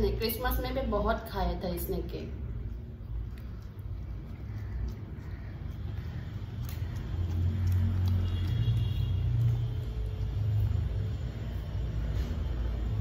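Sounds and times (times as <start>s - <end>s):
vehicle engine rumbling: 2.2s - 13.0s.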